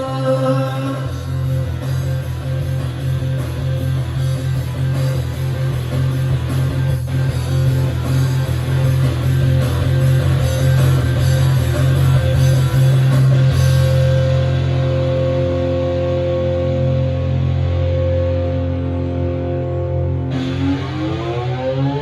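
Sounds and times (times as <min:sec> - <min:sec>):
rock music with guitars and drums: 0:00.0 - 0:22.0.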